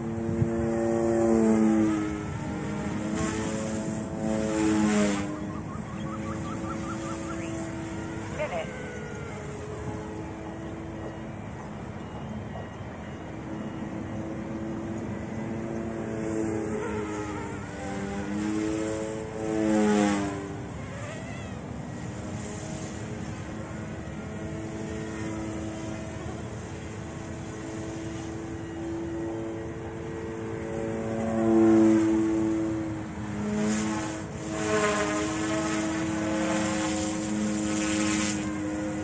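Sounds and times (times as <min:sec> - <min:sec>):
helicopter rotors whining: 0:00.0 - 0:39.0.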